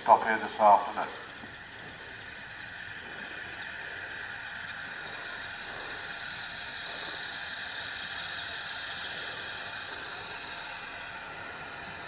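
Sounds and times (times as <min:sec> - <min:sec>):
high chirps: 0:00.0 - 0:12.0
outdoor background hiss: 0:00.0 - 0:12.0.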